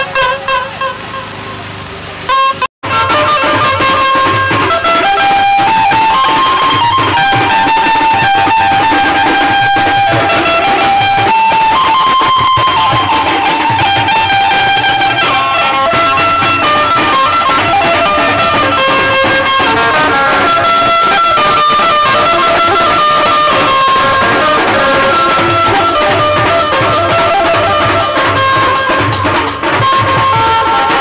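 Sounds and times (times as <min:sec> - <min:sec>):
dense drumming: 0:02.8 - 0:31.0
music with held-note melody: 0:02.8 - 0:31.0.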